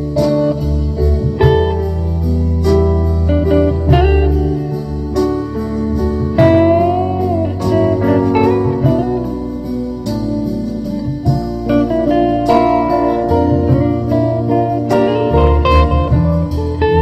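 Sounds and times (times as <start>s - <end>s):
sliding guitar music: 0.0s - 17.0s.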